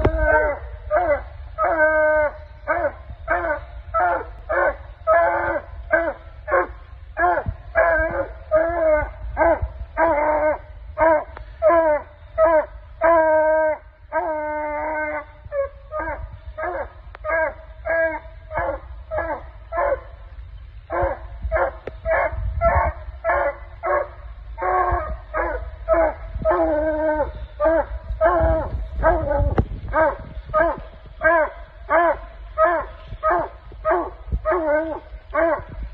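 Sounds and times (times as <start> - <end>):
hound barking and bawling: 0.0 - 20.2, 20.8 - 35.9.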